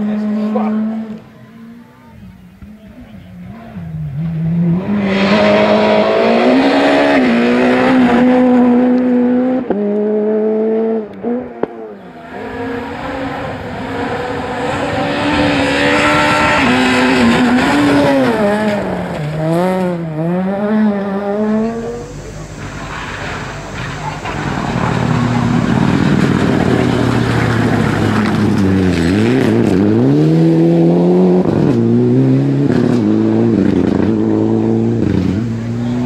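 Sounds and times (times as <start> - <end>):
rally car engine high revs: 0.0 - 1.9, 2.6 - 36.0.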